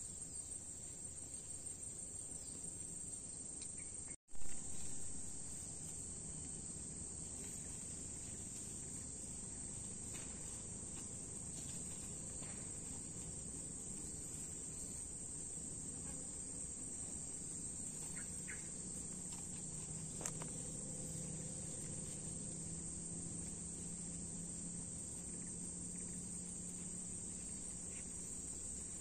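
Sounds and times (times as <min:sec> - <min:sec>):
insect chorus chirring: 0:00.0 - 0:29.0
outdoor background noise: 0:00.0 - 0:29.0.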